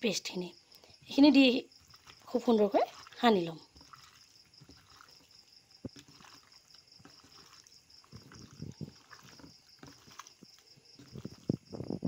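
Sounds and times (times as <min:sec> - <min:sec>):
cricket chirping: 0:00.0 - 0:12.0
soft squelches of mixing marinade: 0:00.0 - 0:12.0.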